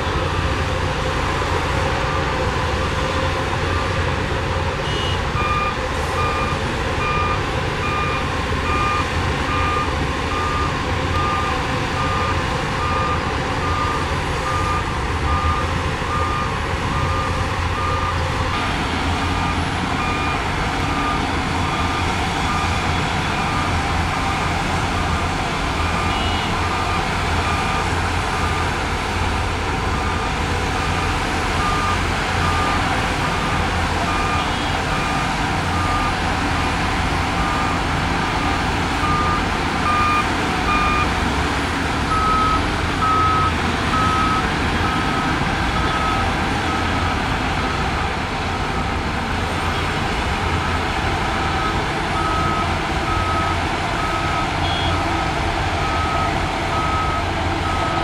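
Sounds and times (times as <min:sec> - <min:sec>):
heavy diesel engine running: 0:00.0 - 0:58.0
reversing alarm beeping: 0:04.8 - 0:28.9, 0:29.5 - 0:41.2, 0:42.0 - 0:48.0, 0:51.5 - 0:55.2, 0:55.8 - 0:58.0.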